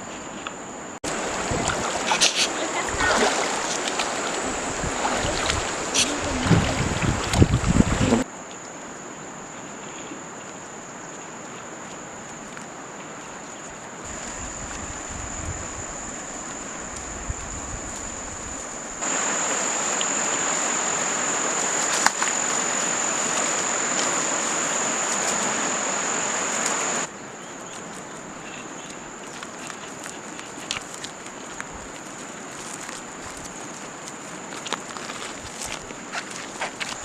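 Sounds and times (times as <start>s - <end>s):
outdoor background noise: 0.0s - 37.0s
insects buzzing: 1.0s - 11.3s, 13.4s - 37.0s.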